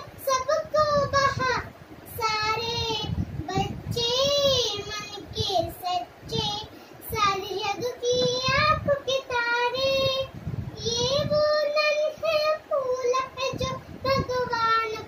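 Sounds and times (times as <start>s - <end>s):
girl singing solo: 0.0s - 15.0s.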